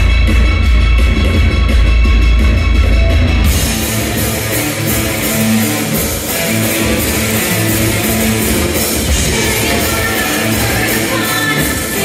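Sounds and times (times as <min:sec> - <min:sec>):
heavy bass drone: 0:00.0 - 0:12.0
live rock band: 0:00.0 - 0:12.0
loud electric guitar: 0:00.0 - 0:12.0.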